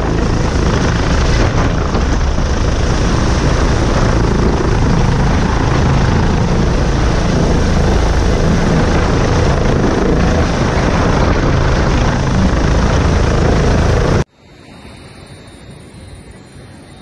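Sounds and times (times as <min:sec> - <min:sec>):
helicopter rotor and engine: 0:00.0 - 0:14.3
wind rush: 0:00.0 - 0:17.0.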